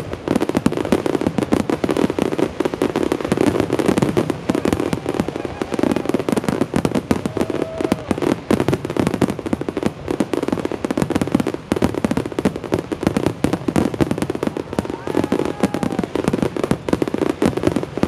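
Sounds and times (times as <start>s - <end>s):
fireworks bursts and crackling bangs: 0.0s - 18.0s.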